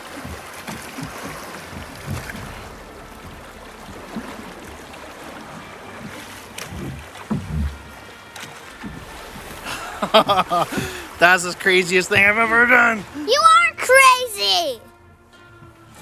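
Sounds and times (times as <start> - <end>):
wind on microphone: 0.0 - 13.3
river water rushing: 0.0 - 16.0
short low thumps: 0.3 - 13.6.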